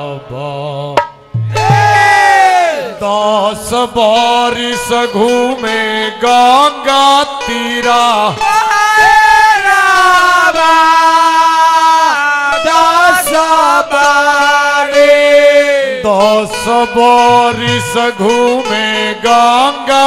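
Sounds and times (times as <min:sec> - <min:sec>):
man singing through microphone: 0:00.0 - 0:20.0
harmonium: 0:03.0 - 0:20.0.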